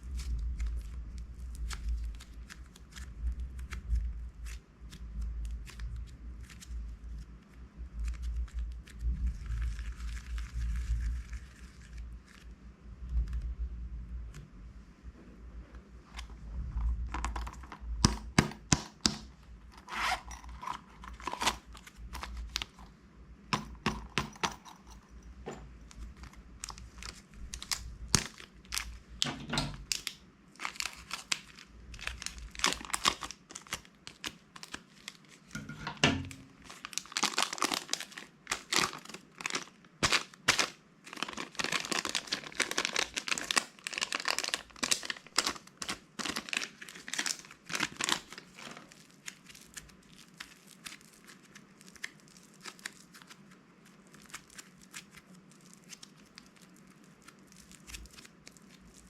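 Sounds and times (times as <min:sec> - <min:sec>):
plastic packaging crinkling and tearing: 0:00.0 - 0:13.6, 0:16.1 - 0:23.0, 0:25.8 - 0:59.0.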